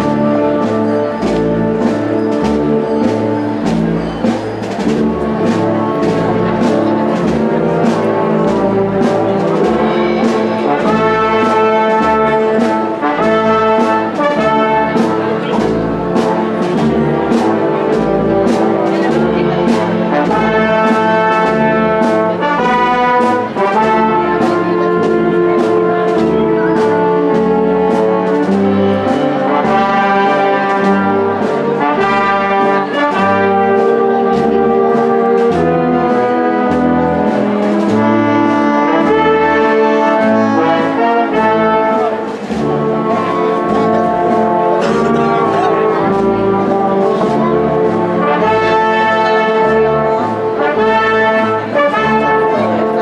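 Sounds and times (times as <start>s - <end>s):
steady drum beat: 0.0s - 53.0s
trumpets and trombones melody: 0.0s - 53.0s.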